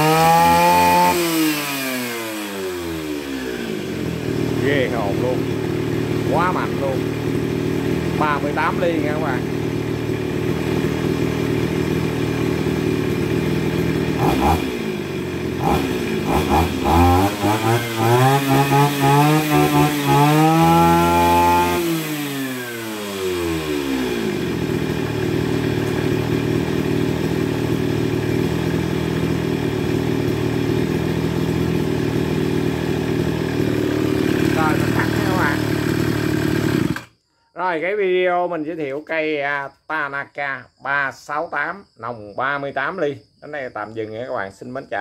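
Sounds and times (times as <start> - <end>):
brush cutter engine revving: 0.0 - 37.2.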